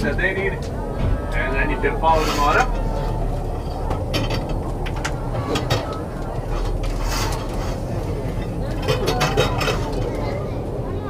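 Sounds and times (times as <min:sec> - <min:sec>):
faint voices: 0:00.0 - 0:11.0
low machinery rumble: 0:00.0 - 0:11.0.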